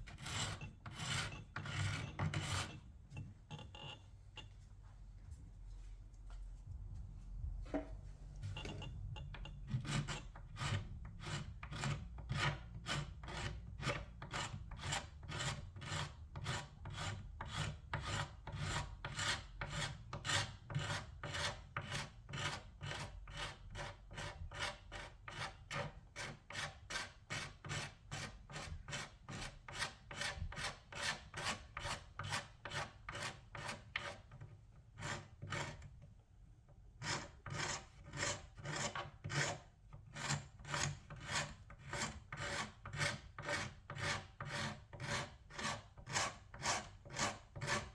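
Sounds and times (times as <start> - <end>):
tool scraping wood surface: 0.0 - 2.9, 8.5 - 35.9, 37.0 - 47.9.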